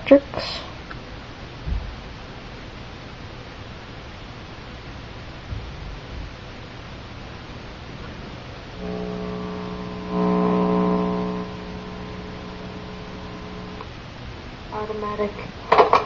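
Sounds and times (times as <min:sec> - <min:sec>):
electrical buzzing hum from speaker: 0:00.0 - 0:16.0.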